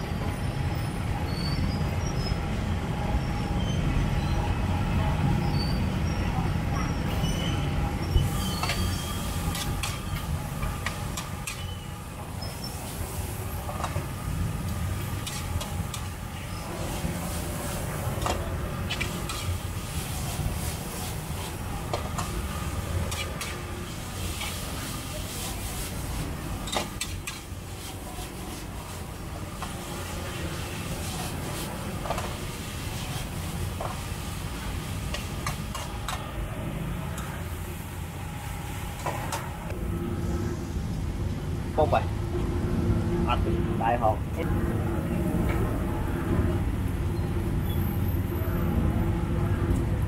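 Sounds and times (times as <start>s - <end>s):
low rumble of traffic: 0.0s - 50.0s.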